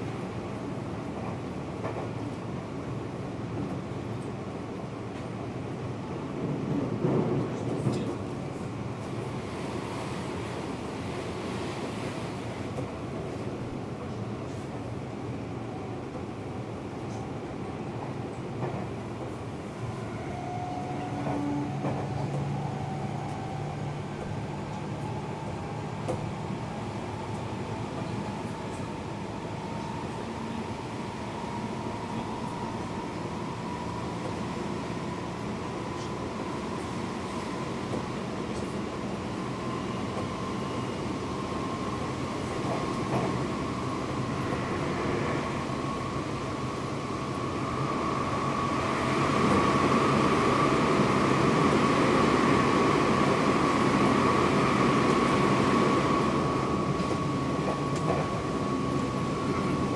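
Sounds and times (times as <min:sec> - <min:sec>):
train wheel and rail noise: 0:00.0 - 0:59.9.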